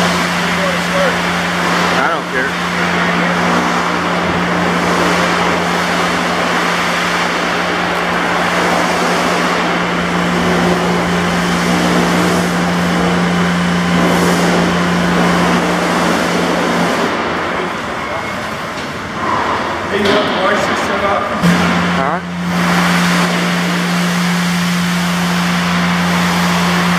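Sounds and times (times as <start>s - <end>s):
constant low hum: 0.0s - 26.9s
loud machine noise: 0.0s - 26.9s.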